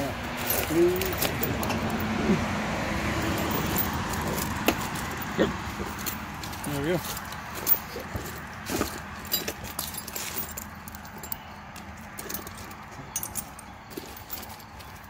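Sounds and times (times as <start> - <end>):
bolts and nuts rattling: 0.0 - 2.2, 3.2 - 15.0.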